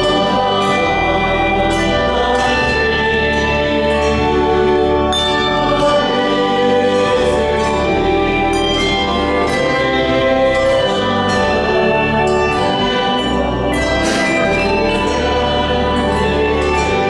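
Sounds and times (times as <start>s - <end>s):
sustained church chords: 0.0s - 17.0s.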